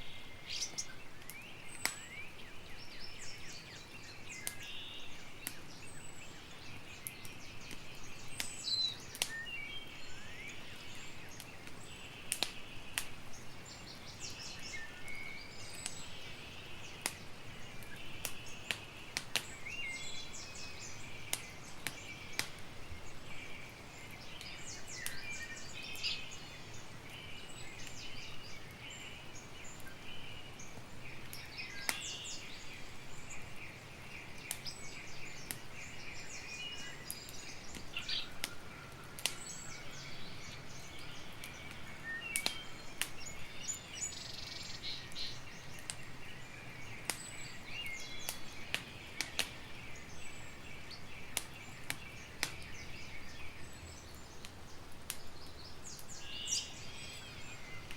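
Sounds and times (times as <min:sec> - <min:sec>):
birds chirping and singing: 0:00.0 - 0:57.9
campfire crackling and popping: 0:00.0 - 0:57.9.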